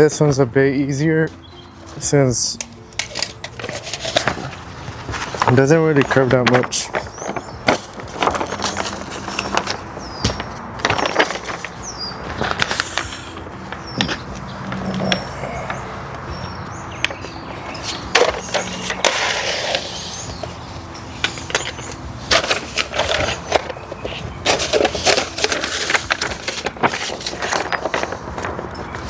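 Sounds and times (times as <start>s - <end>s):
vinyl film crackling and rustling: 3.0s - 29.0s.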